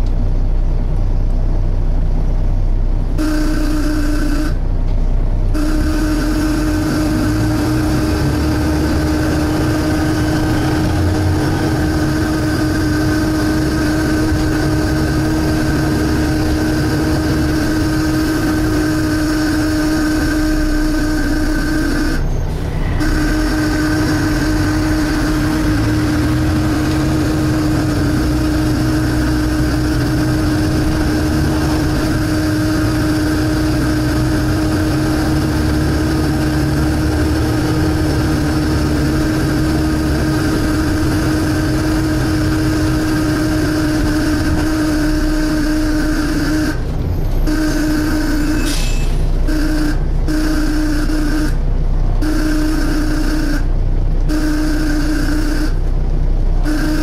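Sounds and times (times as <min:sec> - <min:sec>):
bus diesel engine rumble: 0:00.0 - 0:57.0
steady suction whine: 0:03.1 - 0:04.8, 0:05.5 - 0:57.0.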